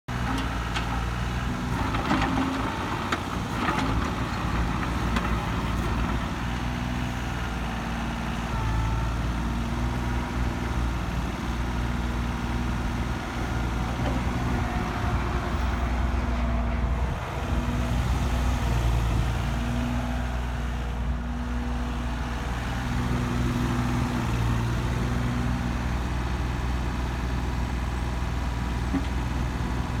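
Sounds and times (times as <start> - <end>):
excavator diesel engine running: 0.1 - 30.0.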